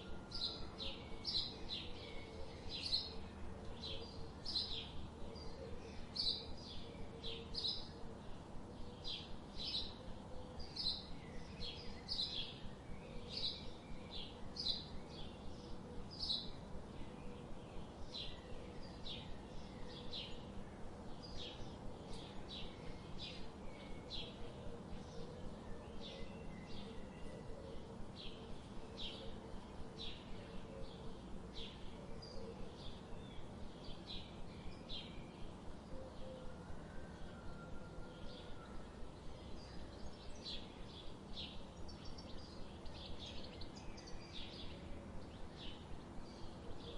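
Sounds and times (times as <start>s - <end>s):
faint background noise: 0.0s - 46.9s.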